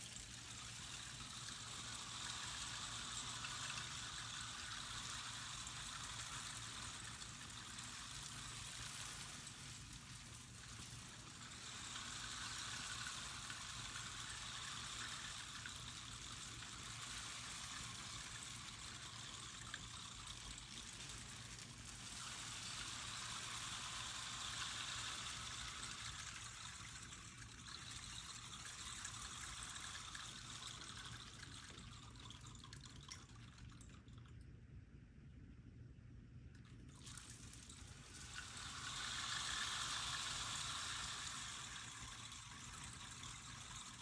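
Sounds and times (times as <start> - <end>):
grains sliding and pouring: 0.0 - 33.4, 36.9 - 44.0.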